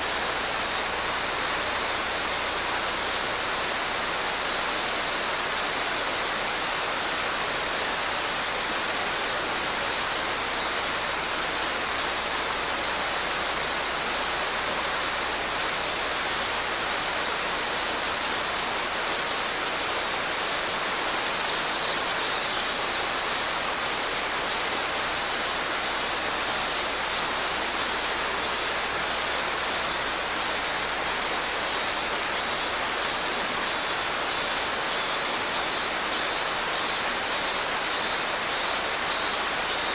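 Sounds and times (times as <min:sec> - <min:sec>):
cicada calling in pulses: 0:00.0 - 0:39.9
mountain stream rushing: 0:00.0 - 0:39.9.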